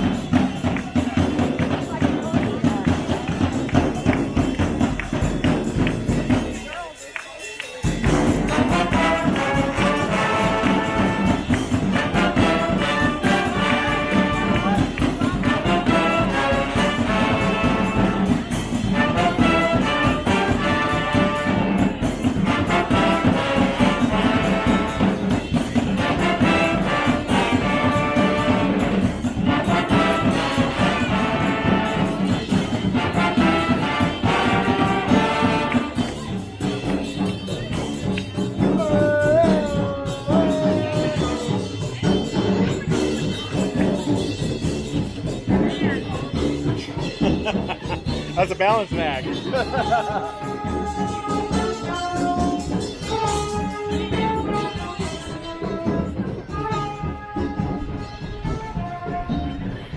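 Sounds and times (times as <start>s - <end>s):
brass band playing: 7.9s - 59.9s.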